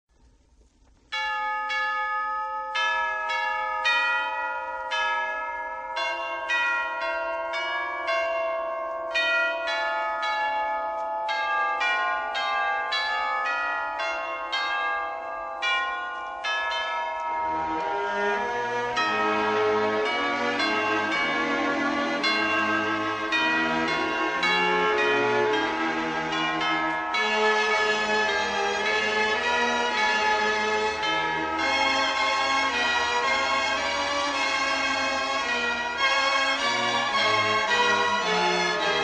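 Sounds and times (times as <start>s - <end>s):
bell chimes ringing: 1.1s - 39.0s.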